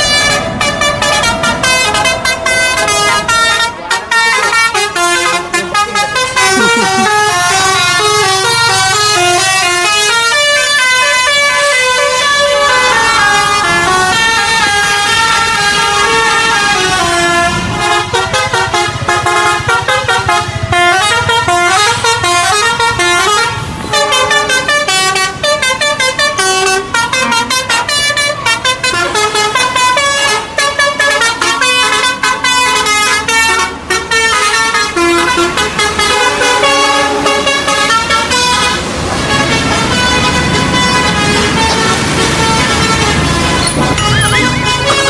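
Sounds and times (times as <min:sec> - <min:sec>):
locomotive horn playing a tune: 0:00.0 - 0:45.0.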